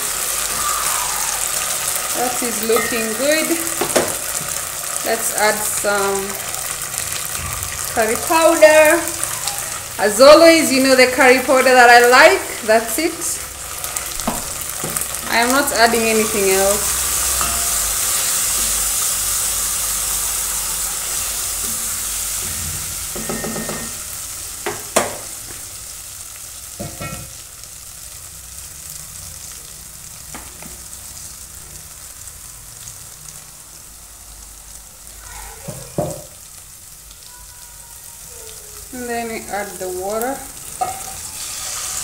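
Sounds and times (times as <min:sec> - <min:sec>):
curry sizzling while stirred: 0:00.0 - 0:42.0.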